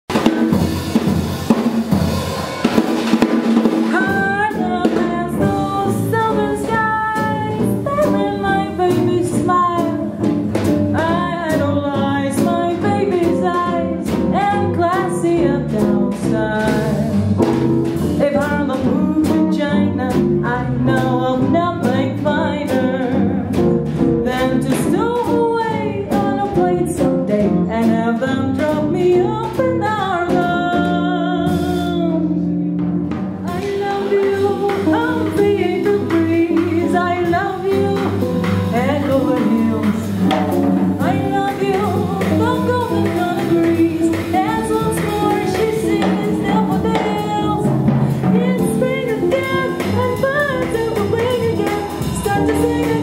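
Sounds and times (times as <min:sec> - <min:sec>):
small band with drum kit: 0:00.0 - 0:53.0
woman singing: 0:03.8 - 0:32.6, 0:33.4 - 0:53.0.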